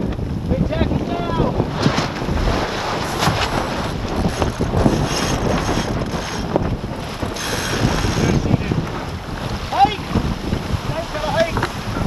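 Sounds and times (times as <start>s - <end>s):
water rushing along boat hull: 0.0s - 12.0s
waves slapping against boat: 0.0s - 12.0s
wind buffeting microphone: 0.0s - 12.0s.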